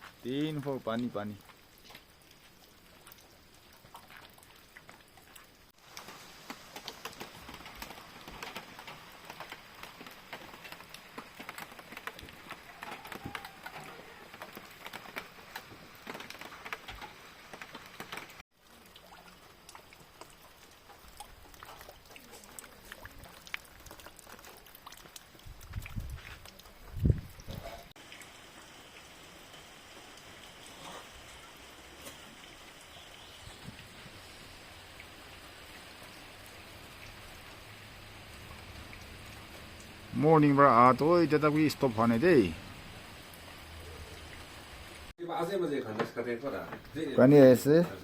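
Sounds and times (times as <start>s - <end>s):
rain patter: 0.0s - 48.0s.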